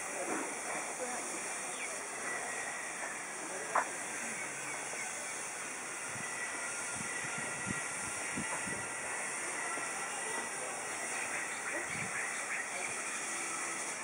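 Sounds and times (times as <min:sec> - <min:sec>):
outdoor ambience hiss: 0:00.0 - 0:14.0.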